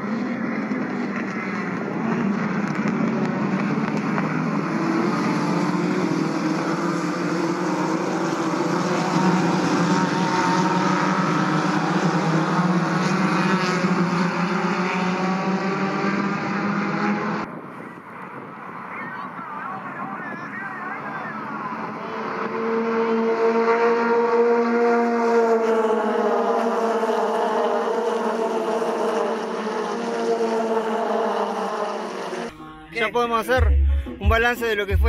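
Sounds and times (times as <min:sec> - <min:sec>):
race car engines passing: 0:00.0 - 0:33.6.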